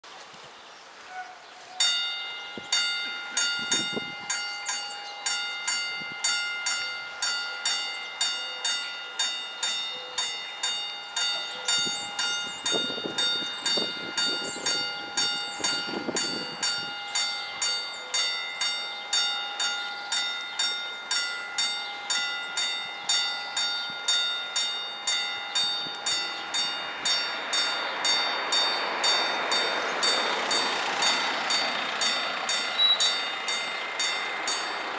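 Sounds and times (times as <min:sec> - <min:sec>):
level-crossing warning bells: 0:01.8 - 0:34.9.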